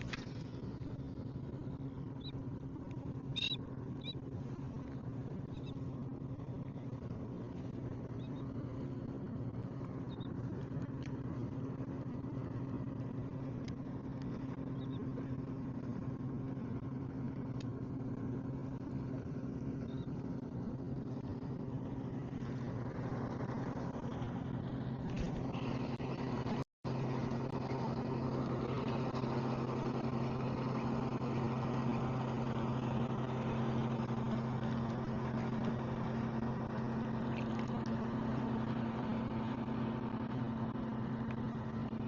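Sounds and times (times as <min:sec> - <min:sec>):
engine droning steadily: 0:00.0 - 0:42.0.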